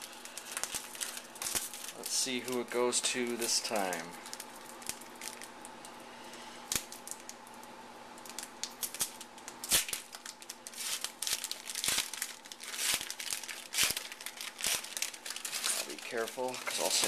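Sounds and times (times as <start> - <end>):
wrapper crinkling and tearing: 0.0 - 5.7, 6.7 - 17.0
faint steady hum: 0.0 - 17.0.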